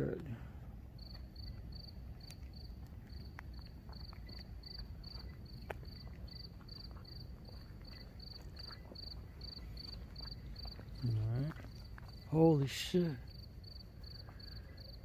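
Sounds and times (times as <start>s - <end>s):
cricket chirping: 0.9s - 15.0s.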